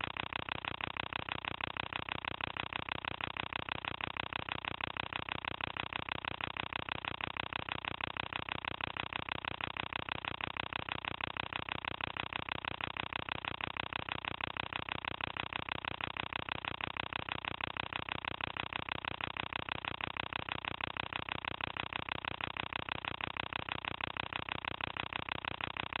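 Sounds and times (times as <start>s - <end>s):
film projector clatter and whirr: 0.0s - 26.0s.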